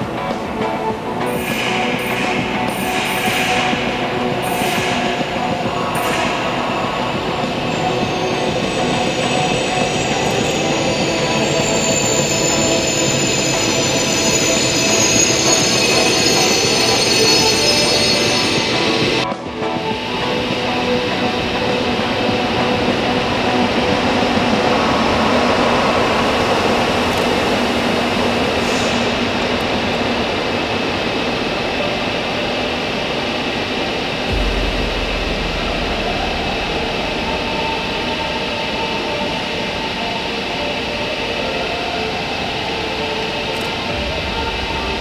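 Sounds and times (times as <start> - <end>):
locomotive humming and whining: 0.0 - 45.0
train departing rumble and whine: 0.0 - 45.0.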